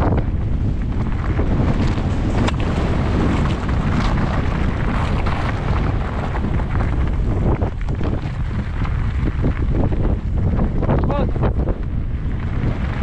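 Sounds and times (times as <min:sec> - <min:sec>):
bike rattling over stones: 0:00.0 - 0:13.0
wind buffeting microphone: 0:00.0 - 0:13.0.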